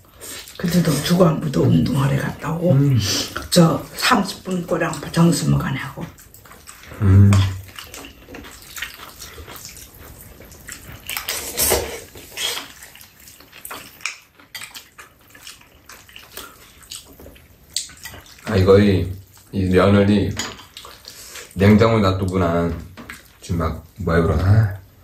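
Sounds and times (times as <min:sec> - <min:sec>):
slurping and chewing: 0:00.0 - 0:19.5, 0:20.6 - 0:21.7.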